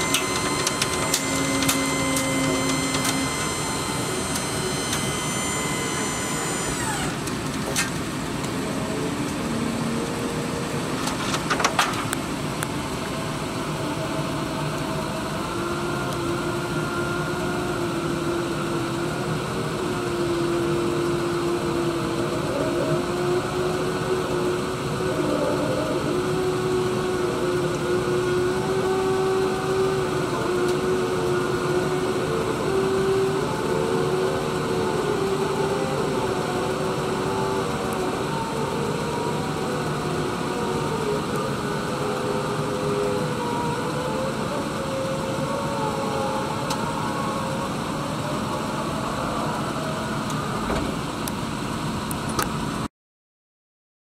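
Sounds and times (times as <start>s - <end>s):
truck engine running: 0.0s - 52.8s
whining hydraulic pump motor: 0.0s - 52.9s.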